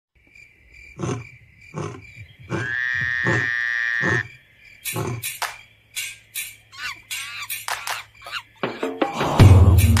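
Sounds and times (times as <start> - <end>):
frogs calling: 0.2 - 9.3
insect trill: 0.2 - 10.0.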